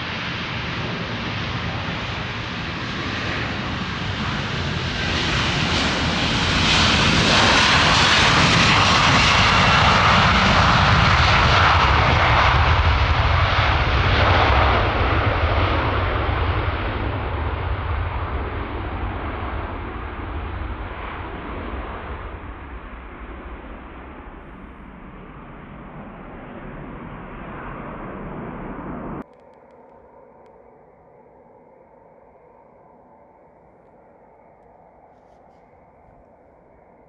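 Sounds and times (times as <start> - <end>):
jet airliner taking off: 0.0 - 31.2.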